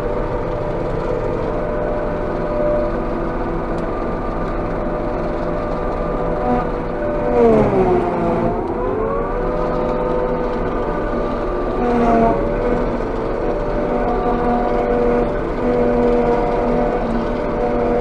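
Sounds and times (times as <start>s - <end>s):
harvester engine running: 0.0s - 18.0s.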